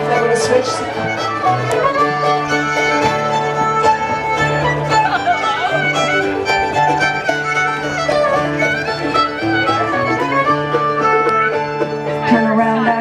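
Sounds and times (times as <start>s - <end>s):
fiddle-led dance band: 0.0s - 13.0s.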